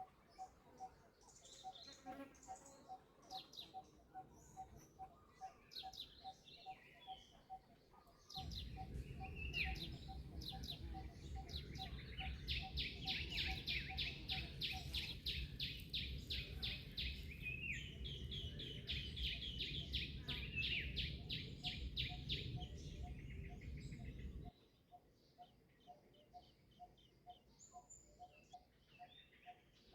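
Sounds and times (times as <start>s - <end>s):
birds chirping in trills: 0.0s - 29.9s.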